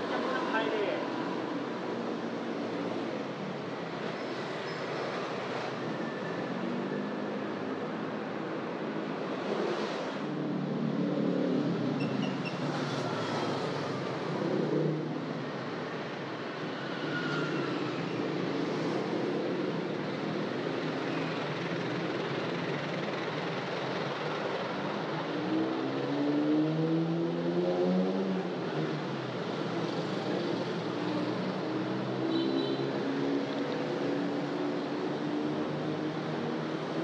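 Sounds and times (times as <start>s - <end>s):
street traffic passing: 0.0s - 37.0s.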